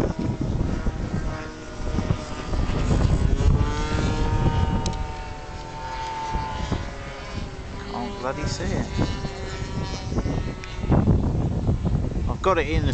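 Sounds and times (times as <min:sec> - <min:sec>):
model plane engine whining: 0:00.0 - 0:12.9
wind rumbling on microphone: 0:00.0 - 0:12.9.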